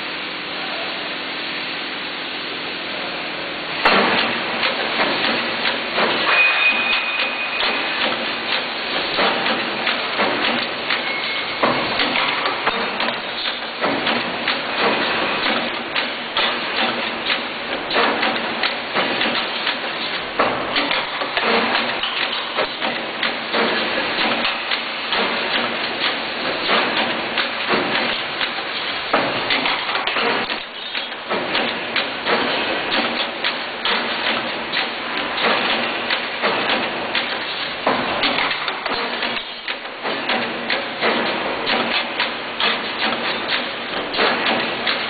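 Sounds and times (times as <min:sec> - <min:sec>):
rebar bending machine clattering: 0:03.8 - 0:45.0.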